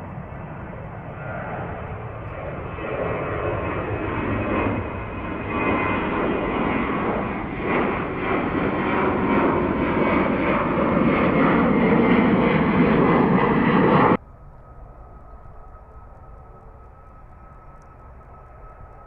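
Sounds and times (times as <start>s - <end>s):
jet engines at takeoff: 0.0s - 19.0s
steady whining tones: 0.0s - 19.0s.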